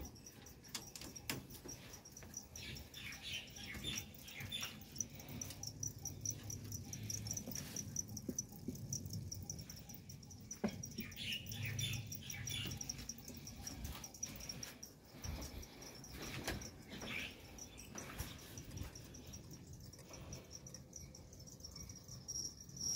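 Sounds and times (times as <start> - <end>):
high-pitched insect chirping: 0.0 - 22.9.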